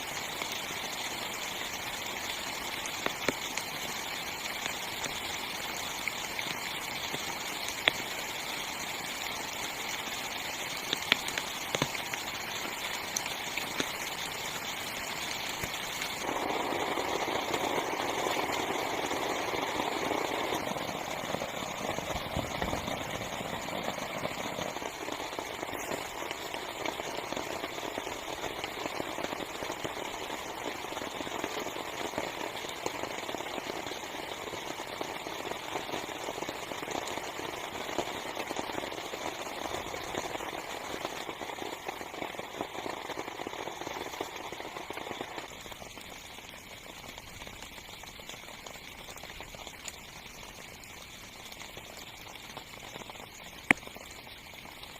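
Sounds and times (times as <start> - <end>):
heavy rain on tent fabric: 0.0 - 54.9.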